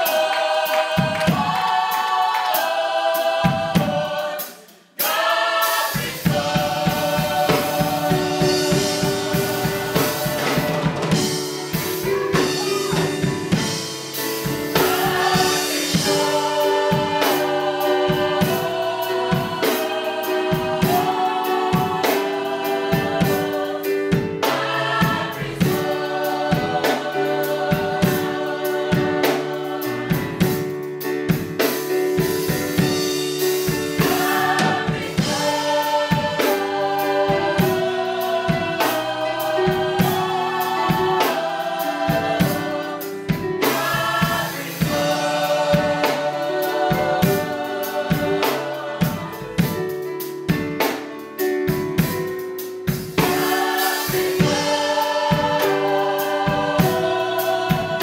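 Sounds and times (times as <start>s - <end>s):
choir singing gospel song: 0.0s - 58.0s
drum kit beat: 0.0s - 58.0s.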